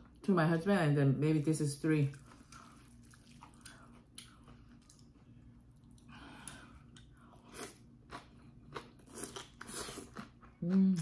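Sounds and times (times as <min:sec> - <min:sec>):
person chewing and slurping noodles: 0:02.1 - 0:11.0.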